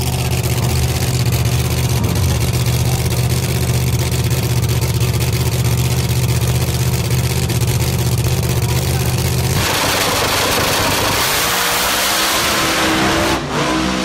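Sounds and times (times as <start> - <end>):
truck engine lumpy high idle: 0.0 - 11.3.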